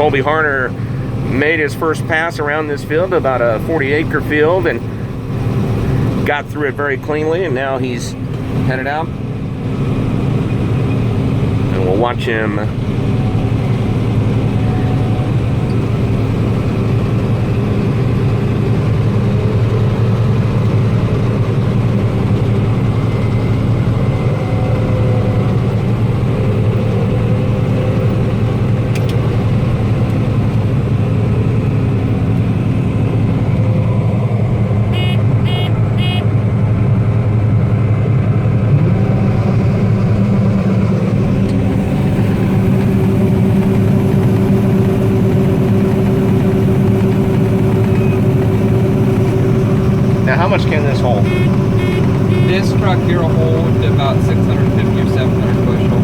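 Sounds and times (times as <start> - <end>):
harvester engine and machinery: 0.0 - 56.0.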